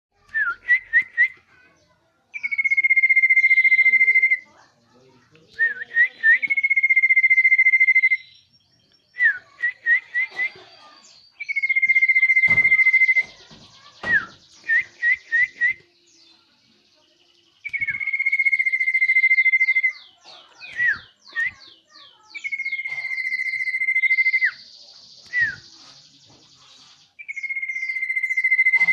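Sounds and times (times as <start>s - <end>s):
bird chirps and trills: 0.2s - 28.9s
bird singing whistles: 0.3s - 1.4s, 2.4s - 4.5s, 5.5s - 10.5s, 11.4s - 16.2s, 17.6s - 26.1s, 27.2s - 28.9s.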